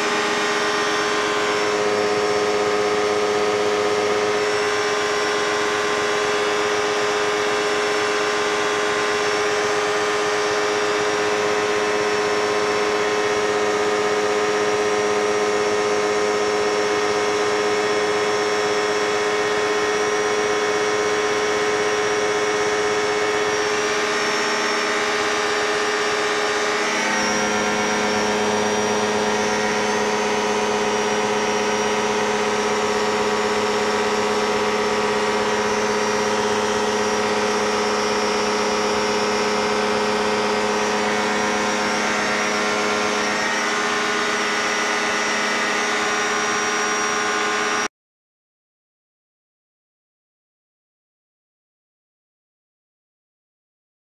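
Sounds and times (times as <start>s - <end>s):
propeller aircraft engine drone: 0.0s - 47.9s.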